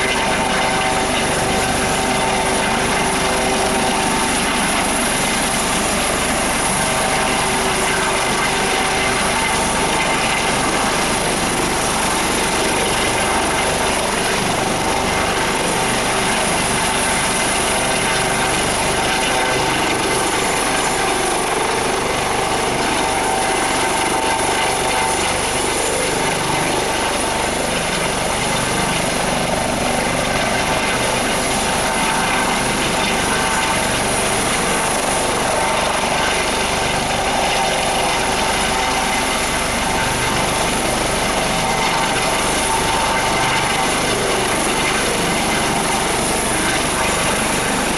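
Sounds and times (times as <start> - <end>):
helicopter hovering: 0.0 - 47.9
high turbine whine: 0.0 - 47.9.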